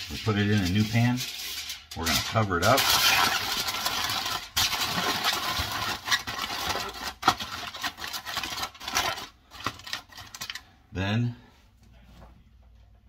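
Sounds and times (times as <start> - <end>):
aluminum foil crinkling: 0.0 - 10.8.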